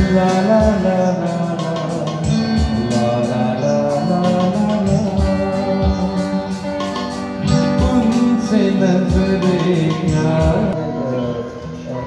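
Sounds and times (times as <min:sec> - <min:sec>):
low drum beats: 0:00.0 - 0:10.8
guitar: 0:00.0 - 0:12.0
person singing: 0:00.0 - 0:12.0.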